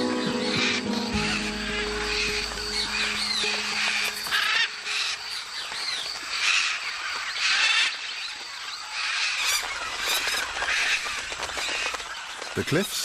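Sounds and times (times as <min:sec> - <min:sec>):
chatter of thin bird calls: 0:00.4 - 0:13.0.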